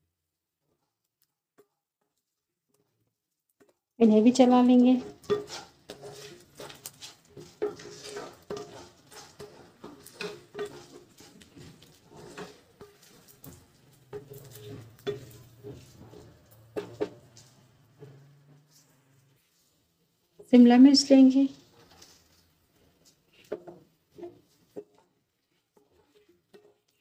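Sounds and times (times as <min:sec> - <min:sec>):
wooden spatula scraping pan: 0:04.0 - 0:27.0.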